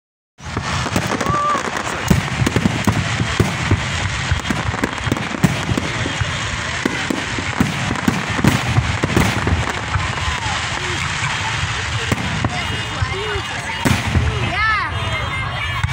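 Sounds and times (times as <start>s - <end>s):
crackling rumble: 0.4s - 14.7s
fireworks bangs: 0.4s - 15.9s.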